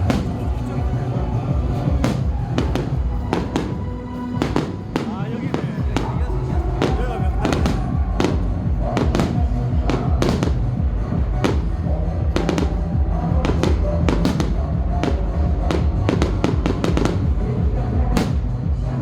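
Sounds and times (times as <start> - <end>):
fireworks cracking and banging: 0.0 - 18.9
music with heavy bass: 0.0 - 19.0.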